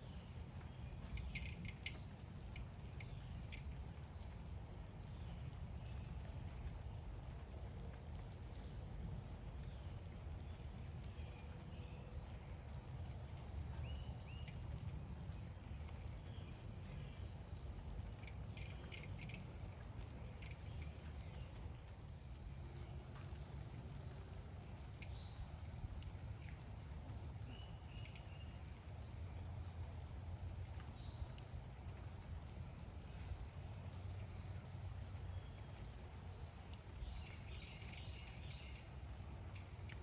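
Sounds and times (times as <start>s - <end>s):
low outdoor rumble: 0.0s - 40.0s
small birds chirping: 0.0s - 40.0s
faint clicks: 0.6s - 40.0s.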